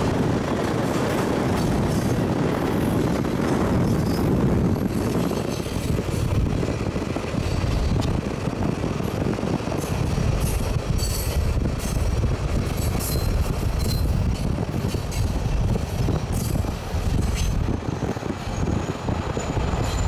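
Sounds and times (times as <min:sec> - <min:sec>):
car road and wind noise: 0:00.0 - 0:20.0
freight train rumbling on rails: 0:00.0 - 0:20.0.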